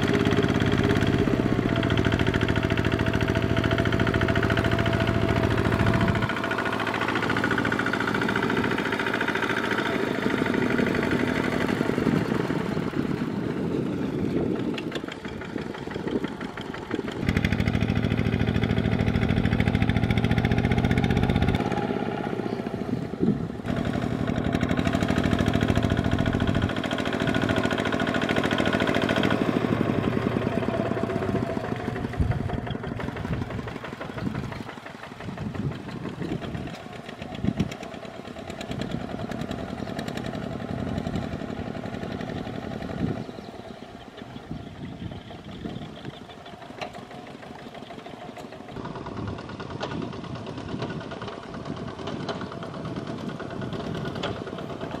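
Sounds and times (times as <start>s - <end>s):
diesel tractor engine under load: 0.0s - 55.0s.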